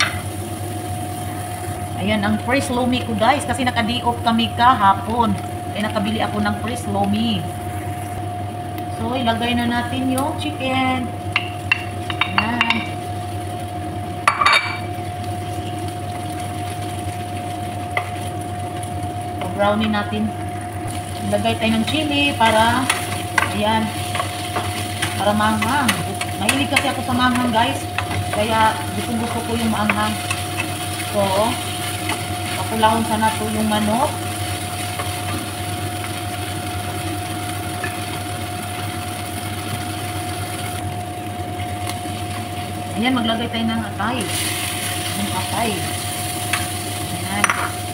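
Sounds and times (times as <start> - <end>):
chicken sizzling in a frying pan: 0.0 - 8.0, 9.8 - 47.9
steady hum: 0.0 - 47.9.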